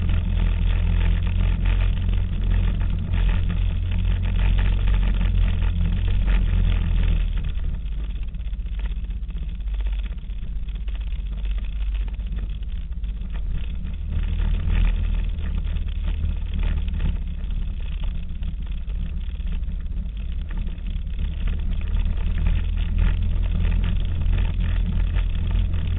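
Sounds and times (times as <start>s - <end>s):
atv engine rumbling: 0.0s - 25.9s.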